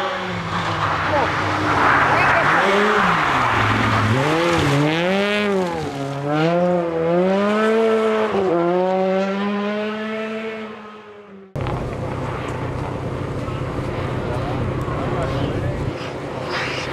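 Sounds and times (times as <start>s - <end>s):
outdoor background noise: 0.0s - 16.9s
rally car engine revving: 0.0s - 16.9s.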